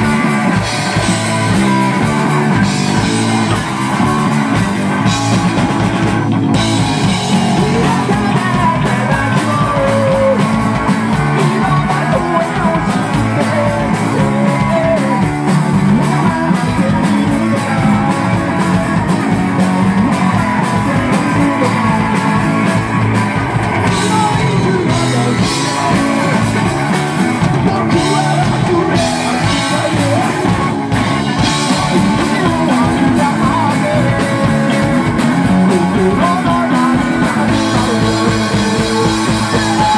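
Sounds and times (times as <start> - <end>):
drum kit: 0.0 - 39.9
electric bass: 0.0 - 39.9
electric guitar: 0.0 - 39.9
person singing: 6.6 - 39.9.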